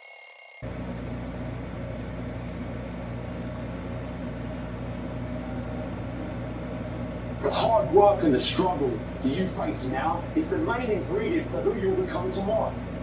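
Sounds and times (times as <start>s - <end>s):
low mechanical hum: 0.6s - 13.0s.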